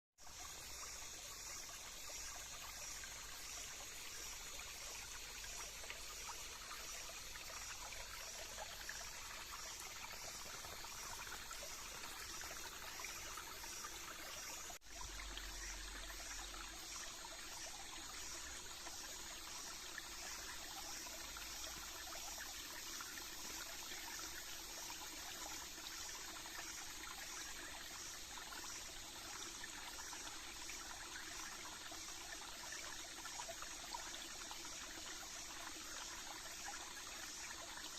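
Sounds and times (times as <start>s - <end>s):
stream trickling: 0.2s - 37.9s.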